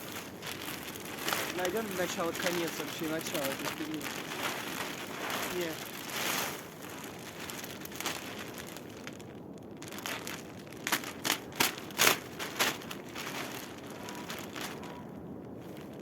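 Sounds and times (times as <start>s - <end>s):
plastic sheeting rustling: 0.0s - 16.0s.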